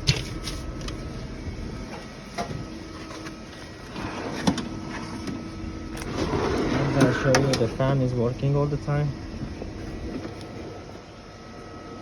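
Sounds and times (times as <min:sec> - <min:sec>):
faint steady whine: 0:00.0 - 0:12.0
machine hum: 0:00.0 - 0:12.0.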